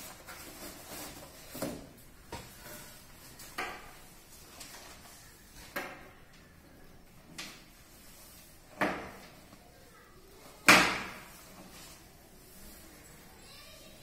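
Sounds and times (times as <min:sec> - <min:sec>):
plastic sheet rustling: 0:00.0 - 0:05.8, 0:07.5 - 0:14.0.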